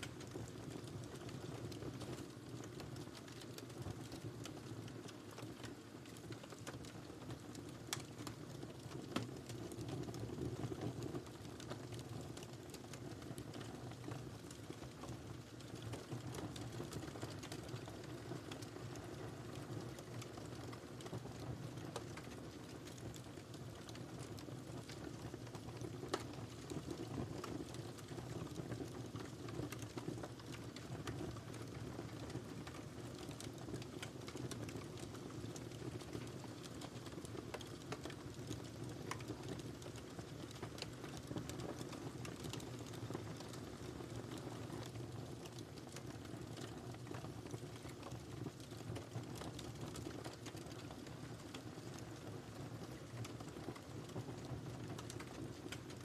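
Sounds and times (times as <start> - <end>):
wood fire crackling: 0.0 - 56.0
flame rumbling: 5.3 - 56.0.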